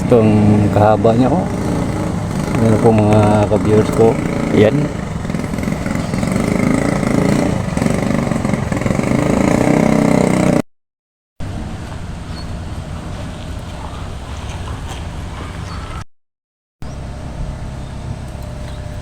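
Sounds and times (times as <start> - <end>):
vehicle engine running: 0.0 - 10.6, 11.4 - 15.8, 16.8 - 19.0.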